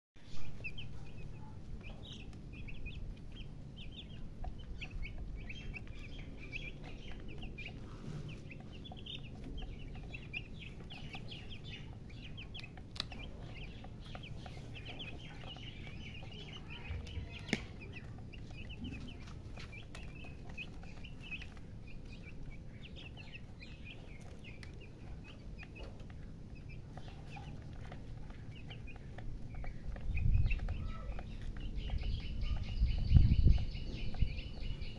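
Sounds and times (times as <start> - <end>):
baby chicks peeping: 0.2 - 34.9.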